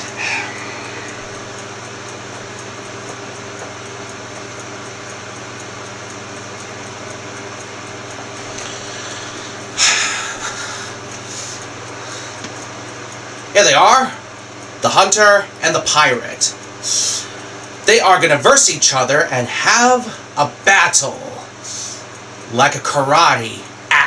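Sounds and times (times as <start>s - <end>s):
fan hum and hiss: 0.0s - 24.0s.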